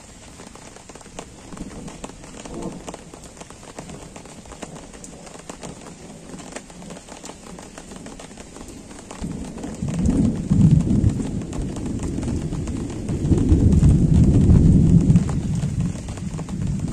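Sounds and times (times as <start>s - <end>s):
light rain pattering: 0.0s - 16.9s
thunder rumbling: 1.1s - 16.9s.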